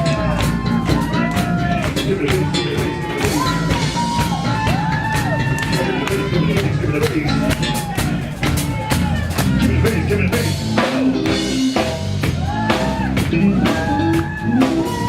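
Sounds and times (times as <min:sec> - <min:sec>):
drum kit beat: 0:00.0 - 0:15.0
live soul band playing: 0:00.0 - 0:15.0.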